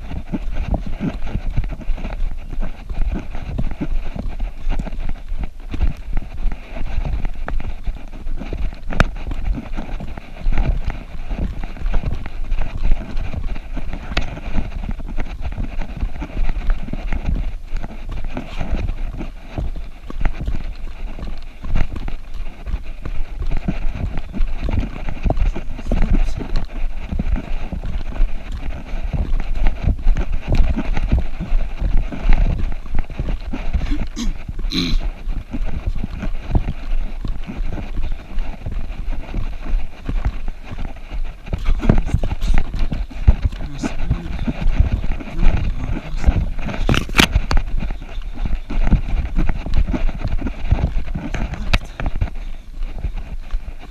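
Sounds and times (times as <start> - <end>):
footsteps on dirt trail: 0.0 - 53.9
wind rumbling on microphone: 0.0 - 53.9.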